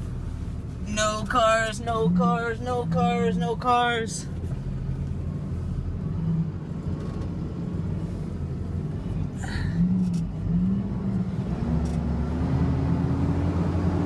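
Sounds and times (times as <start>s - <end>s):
truck engine accelerating: 0.0s - 14.0s.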